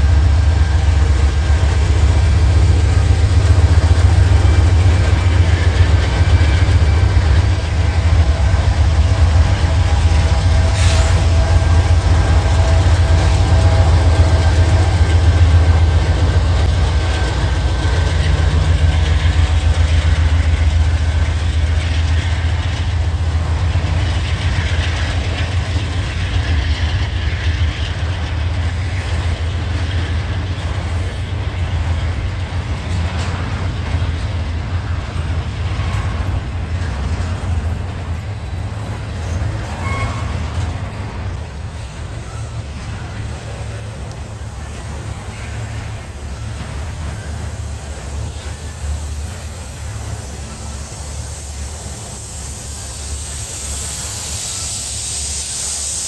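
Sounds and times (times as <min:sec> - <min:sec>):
diesel locomotives passing: 0:00.0 - 0:56.0
train wheels rumbling on rail: 0:00.0 - 0:56.0.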